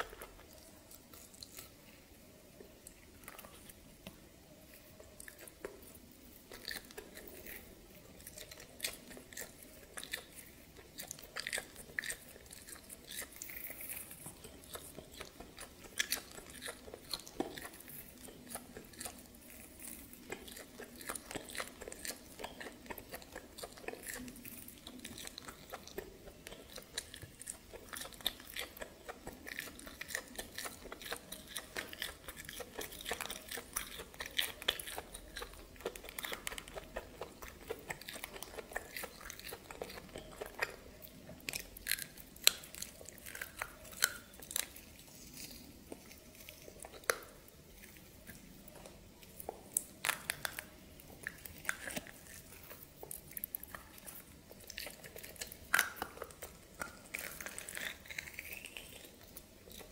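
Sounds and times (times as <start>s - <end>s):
close chewing and biting: 0.0s - 59.9s.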